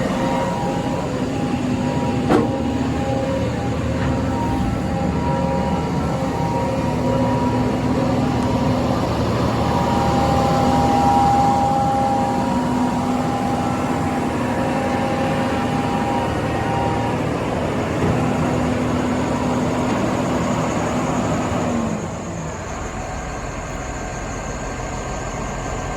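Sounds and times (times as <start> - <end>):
diesel engine whining and idling: 0.0 - 25.9.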